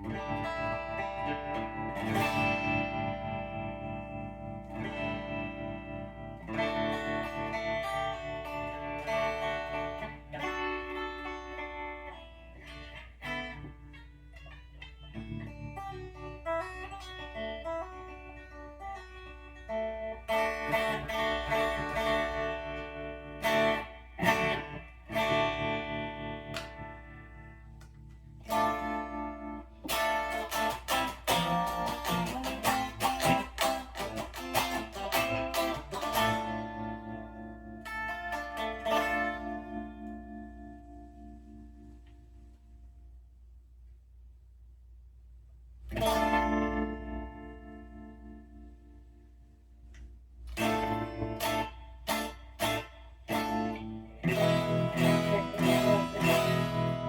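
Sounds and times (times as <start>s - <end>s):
electric guitar playing: 0.0s - 43.1s, 45.8s - 57.0s.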